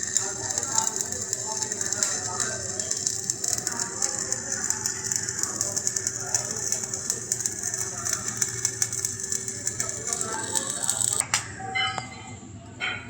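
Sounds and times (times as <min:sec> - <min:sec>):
steady hum: 0:00.0 - 0:11.2
welding arc crackling: 0:00.0 - 0:11.2.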